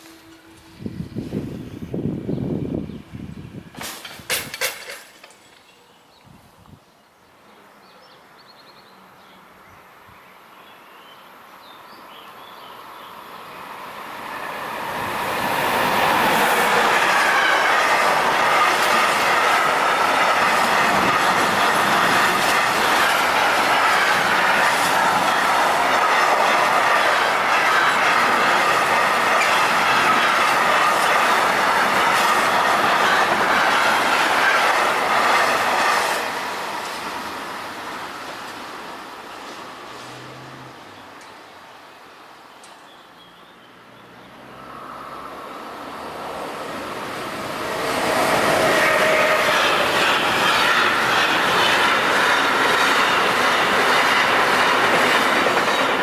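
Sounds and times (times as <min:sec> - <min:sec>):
freight train wheel noise: 0:00.0 - 0:05.8, 0:13.3 - 0:41.8, 0:44.4 - 0:56.0.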